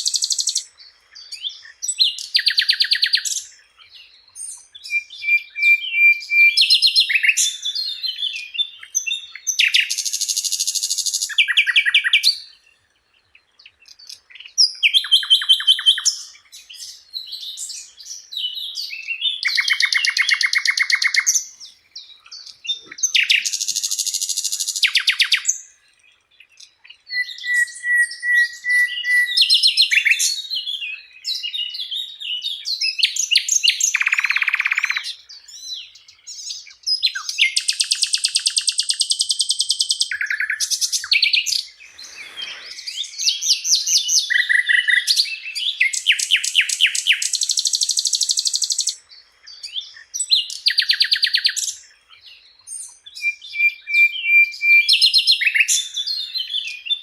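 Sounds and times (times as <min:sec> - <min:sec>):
flycatcher singing: 0:00.0 - 0:57.0.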